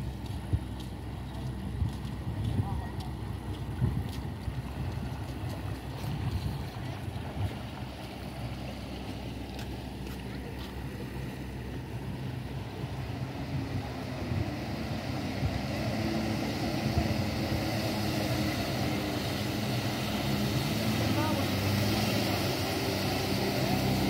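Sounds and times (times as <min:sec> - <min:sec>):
boat engine running: 0:00.0 - 0:24.0
jet ski engine approaching: 0:00.0 - 0:24.0.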